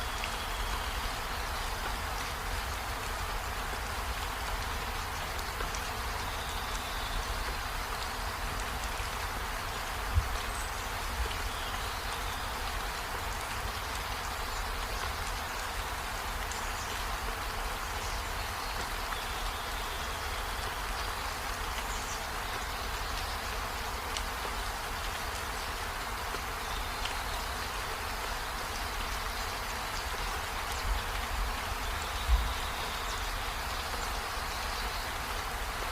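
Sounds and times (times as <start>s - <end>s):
rain on trees and window: 0.0s - 35.9s.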